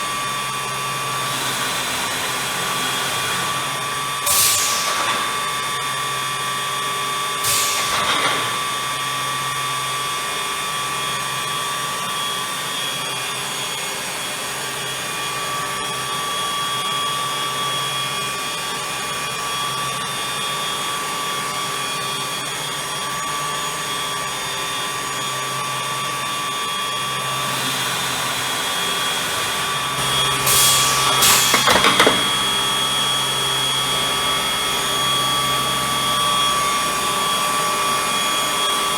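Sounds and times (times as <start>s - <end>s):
machine cutter spindles whining: 0.0s - 38.9s.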